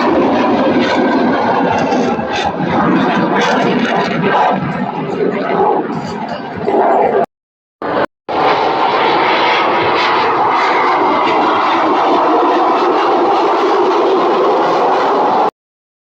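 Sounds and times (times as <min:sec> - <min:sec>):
aircraft engine noise: 0:00.0 - 0:15.5.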